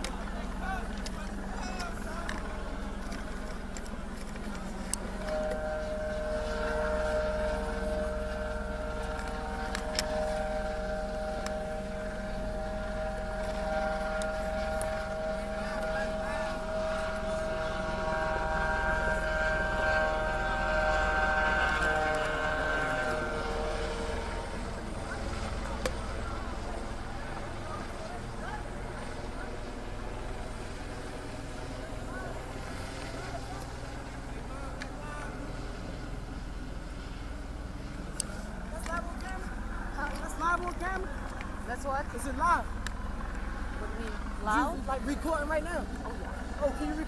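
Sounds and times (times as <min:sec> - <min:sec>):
low rumble: 0:00.0 - 0:47.0
sirens on a steady chord: 0:00.0 - 0:47.0.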